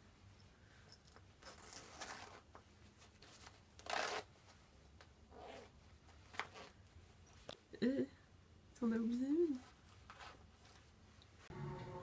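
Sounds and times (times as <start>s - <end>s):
rustling handling noises: 0.0s - 7.7s, 9.0s - 11.5s.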